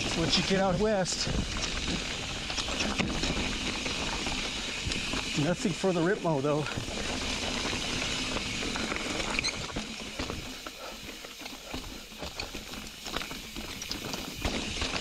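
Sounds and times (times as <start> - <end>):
bike tyres crunching over stones: 0.0 - 15.0
clicks and rattles of rocks: 0.0 - 15.0.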